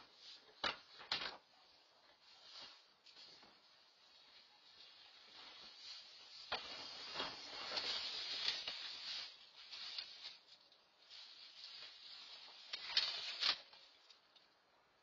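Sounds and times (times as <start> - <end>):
bags and wrappers rustling: 0.1 - 14.3.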